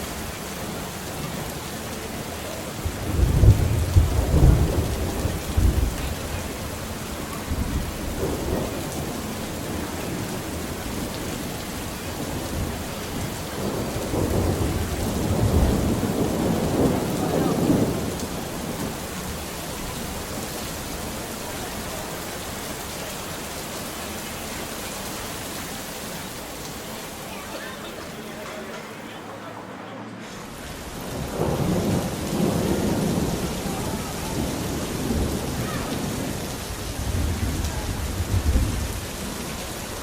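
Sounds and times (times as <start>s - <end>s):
rolling thunder: 0.0s - 23.3s, 30.8s - 40.0s
rain hissing: 0.0s - 40.0s.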